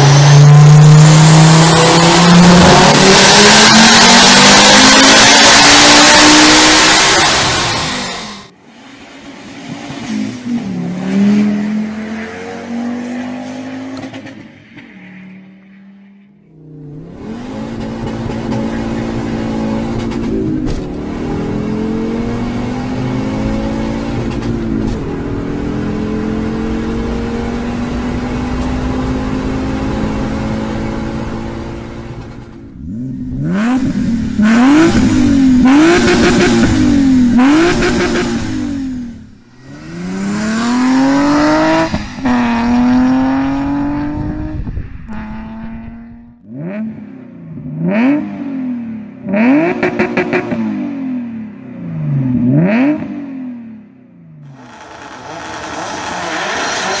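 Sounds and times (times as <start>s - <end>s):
car engine accelerating: 0.0s - 8.5s, 16.6s - 57.0s
car engine revving: 0.0s - 8.5s, 16.6s - 53.8s, 54.4s - 57.0s.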